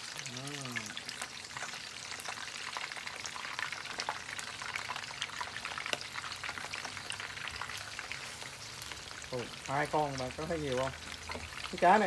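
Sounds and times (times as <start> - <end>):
fish sizzling in hot oil: 0.0 - 12.0
oil crackling and spitting: 0.0 - 12.0.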